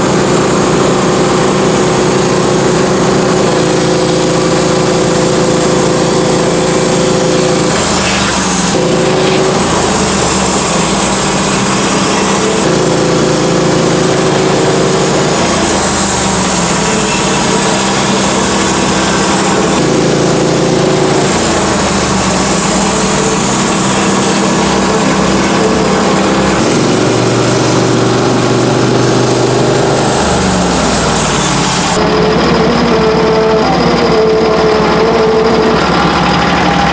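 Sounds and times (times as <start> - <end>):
sawmill engine running: 0.0 - 36.9.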